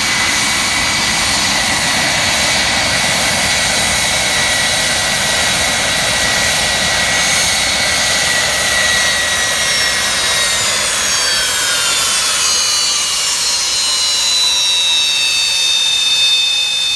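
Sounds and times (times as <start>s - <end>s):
jet engines rushing and whining: 0.0s - 16.9s.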